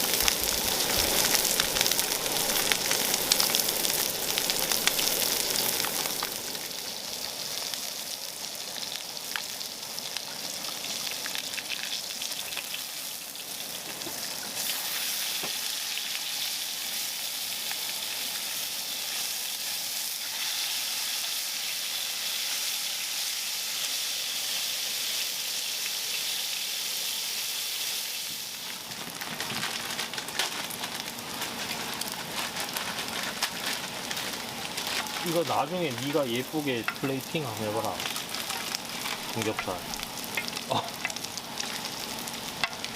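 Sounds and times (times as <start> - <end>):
meat sizzling in a pan: 0.0 - 42.9.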